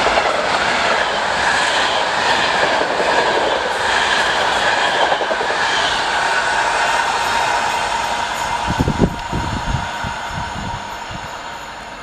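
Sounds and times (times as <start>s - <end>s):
train carriages rushing past: 0.0s - 12.0s.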